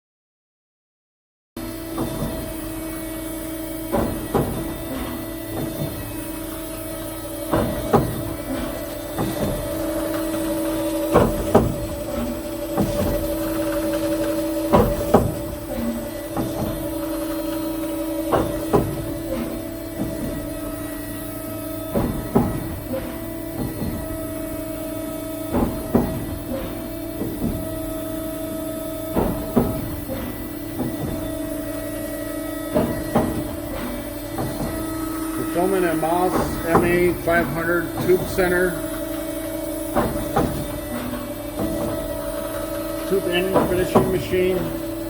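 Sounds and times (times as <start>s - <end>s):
machine hum: 1.6s - 45.0s
sharp machine knocks: 1.7s - 45.0s.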